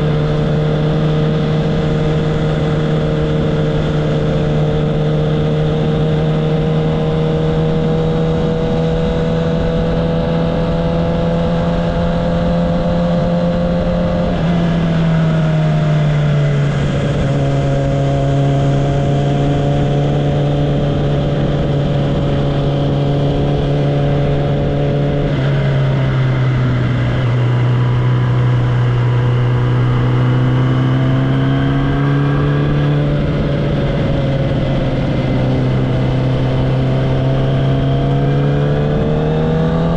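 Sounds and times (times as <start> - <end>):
motorcycle engine and exhaust revving: 0.0 - 39.9.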